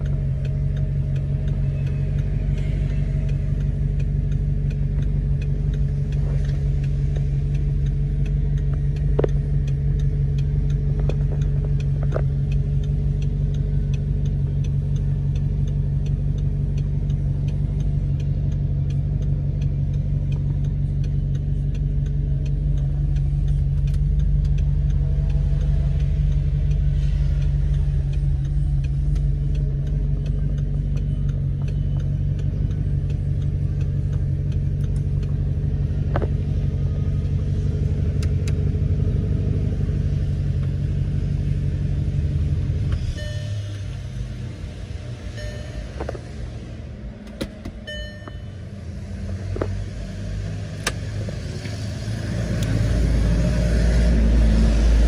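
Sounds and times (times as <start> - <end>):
car engine idling: 0.0 - 55.0
light ticking: 0.0 - 55.0.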